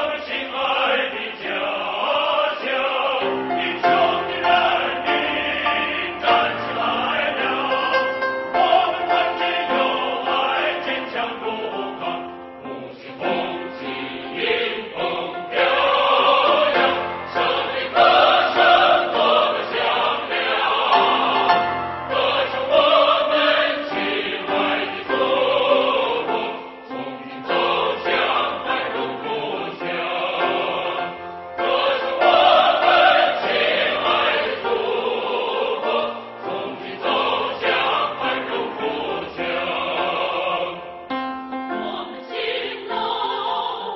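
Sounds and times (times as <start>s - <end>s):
choir singing sustained notes: 0.0s - 43.9s.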